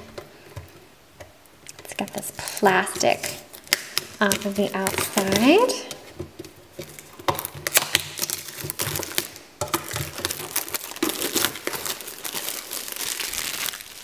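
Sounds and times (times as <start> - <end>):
plastic wrap tearing and crinkling: 1.7 - 14.0.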